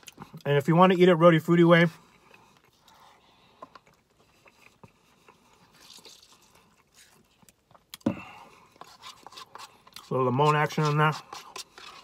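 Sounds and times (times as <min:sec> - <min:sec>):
soft chewing: 0:00.0 - 0:00.5, 0:01.8 - 0:12.0.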